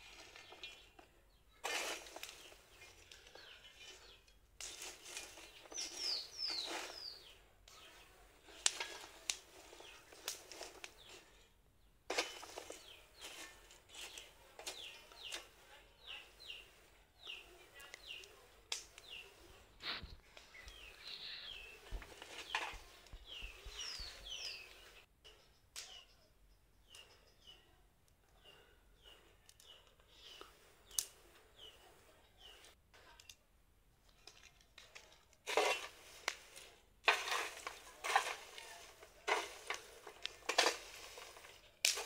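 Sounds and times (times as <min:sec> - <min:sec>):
small birds chirping: 0:00.0 - 0:33.4, 0:34.1 - 0:42.0.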